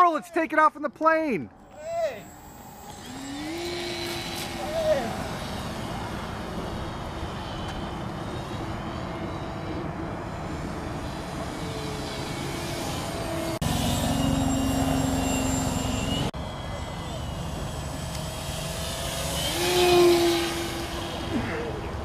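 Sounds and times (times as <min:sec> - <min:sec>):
high whine: 0:01.5 - 0:22.0
model airplane motor droning: 0:01.6 - 0:22.0.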